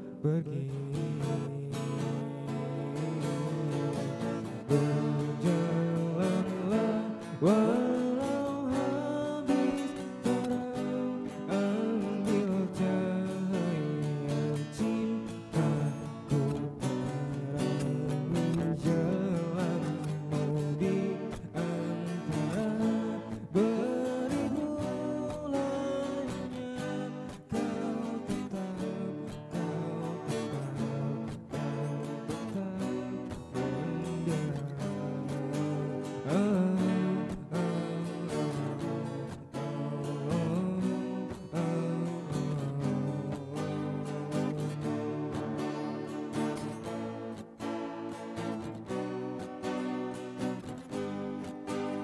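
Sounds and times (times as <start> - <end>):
acoustic guitars playing chords: 0.0 - 52.0.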